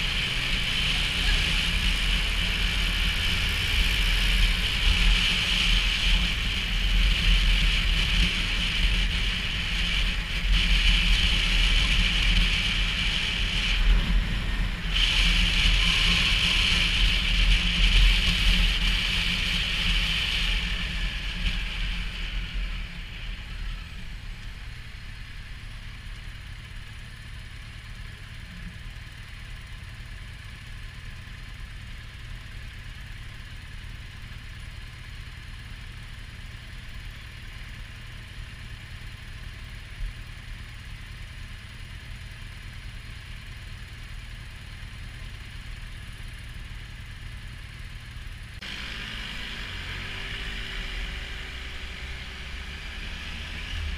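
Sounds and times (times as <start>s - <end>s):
motorcycle engine idling: 0.0s - 52.8s.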